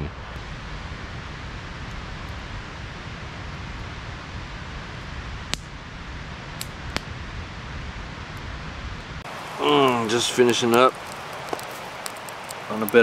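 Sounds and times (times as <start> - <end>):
fire low hiss: 0.0 - 13.0
campfire crackling and popping: 0.2 - 13.0.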